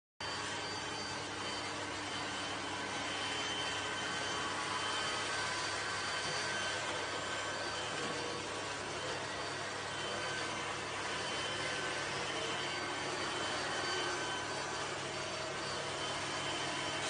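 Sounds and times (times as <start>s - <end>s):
robot vacuum cleaner whirring: 0.2s - 17.0s.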